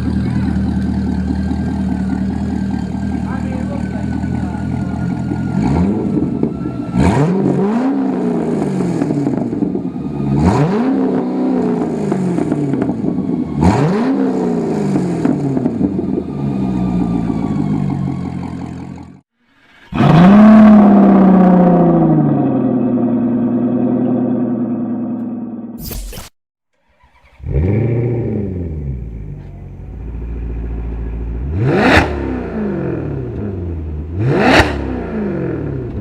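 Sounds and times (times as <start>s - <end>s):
car engine idling and revving: 0.0s - 26.0s, 26.8s - 36.0s.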